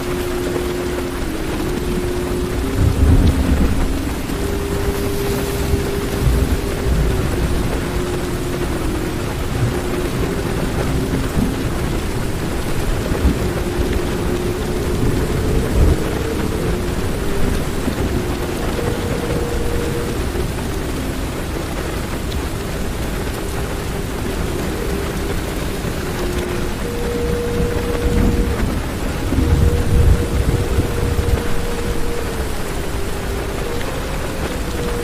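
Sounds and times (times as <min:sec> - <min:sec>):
heavy rain on car roof: 0:00.0 - 0:35.0
low thunder rumble: 0:00.0 - 0:35.0.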